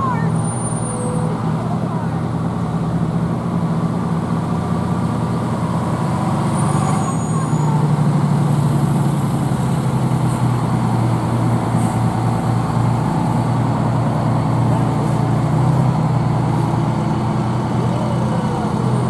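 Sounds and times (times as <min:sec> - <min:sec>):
fire engines rumbling: 0:00.0 - 0:19.0.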